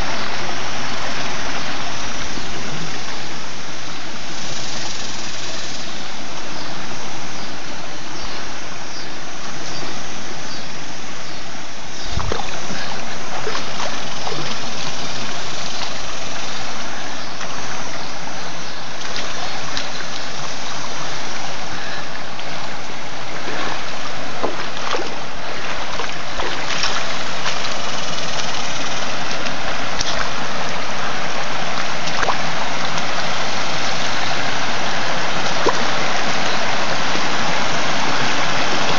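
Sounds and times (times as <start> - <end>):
creek water rushing over rocks: 0.0 - 38.9.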